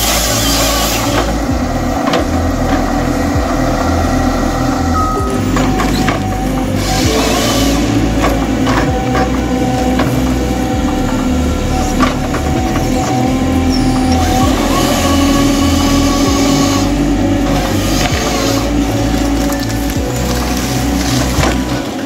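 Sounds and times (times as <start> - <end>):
diesel engine under load: 0.0 - 22.0
hydraulic whine: 0.0 - 22.0.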